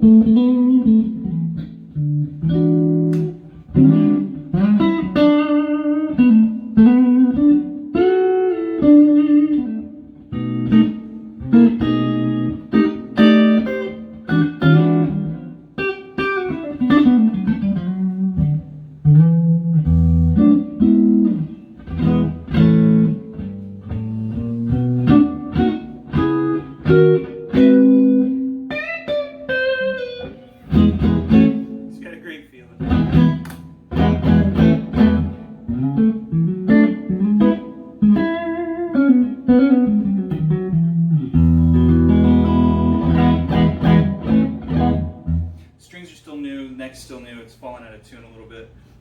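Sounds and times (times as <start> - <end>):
electric guitar playing: 0.0 - 45.8.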